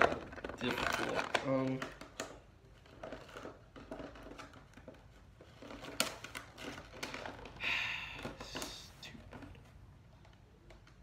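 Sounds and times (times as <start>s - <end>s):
box packaging crinkling and clicking: 0.0s - 11.0s.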